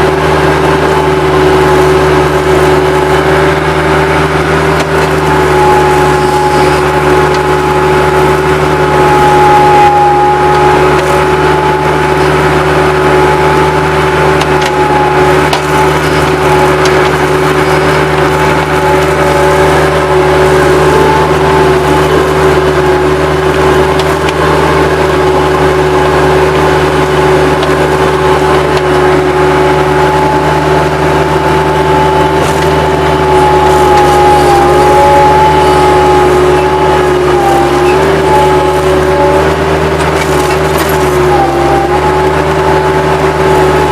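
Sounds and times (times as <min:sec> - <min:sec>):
diesel engine running: 0:00.0 - 0:43.9
steady whine: 0:00.0 - 0:43.9.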